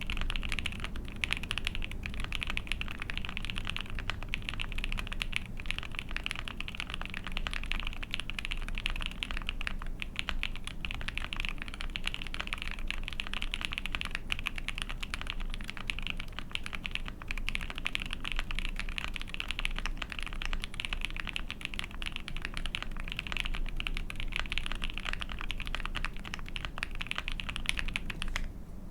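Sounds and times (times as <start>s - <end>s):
fast typing on mechanical keyboard: 0.0s - 28.5s.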